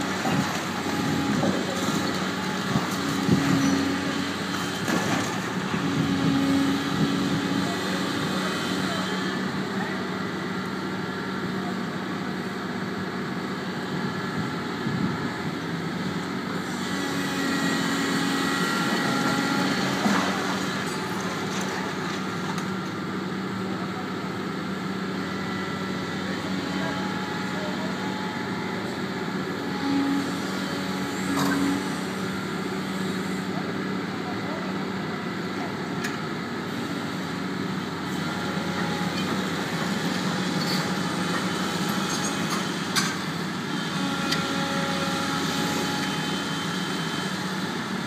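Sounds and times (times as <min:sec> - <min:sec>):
excavator diesel engine: 0:00.0 - 0:48.0.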